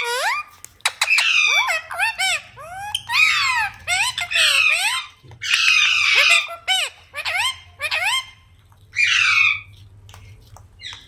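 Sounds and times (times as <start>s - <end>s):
parakeet squawking: 0.0s - 9.8s.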